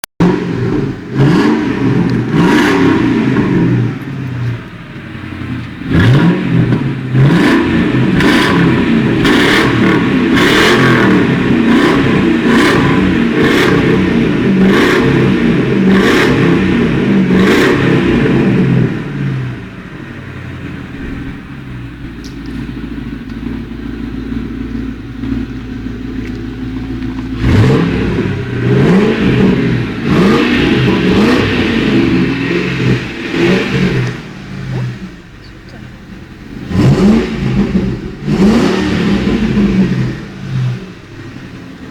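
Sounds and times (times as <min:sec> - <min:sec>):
exhaust cracks: 0:00.0 - 0:41.9
car engine idling: 0:00.2 - 0:41.9
car engine revving: 0:00.2 - 0:41.9.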